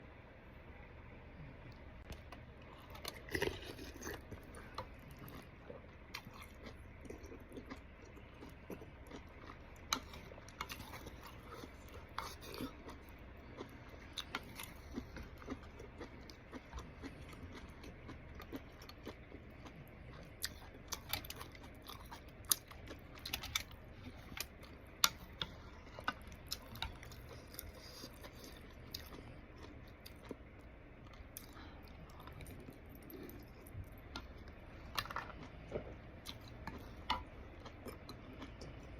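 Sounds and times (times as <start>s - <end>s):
steady low hum: 0.0s - 38.9s
person chewing noodles: 1.7s - 38.9s.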